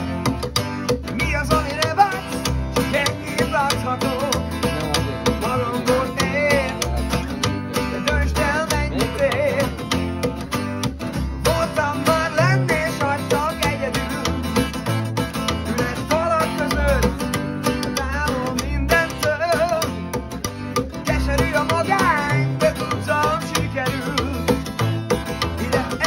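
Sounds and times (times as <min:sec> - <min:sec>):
acoustic guitar strummed: 0:00.0 - 0:26.0
plucked double bass: 0:00.0 - 0:26.0
man singing: 0:00.9 - 0:10.2, 0:11.1 - 0:26.0.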